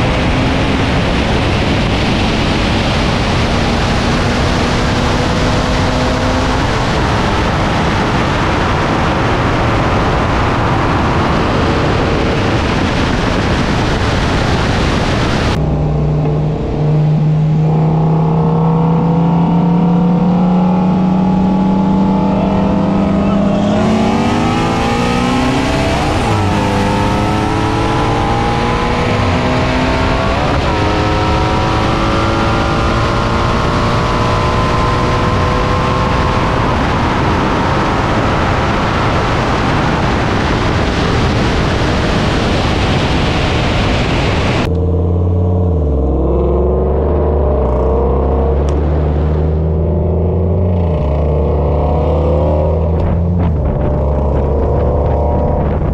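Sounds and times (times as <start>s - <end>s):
car engines at full throttle: 0.0s - 55.9s
wind noise: 0.0s - 55.9s.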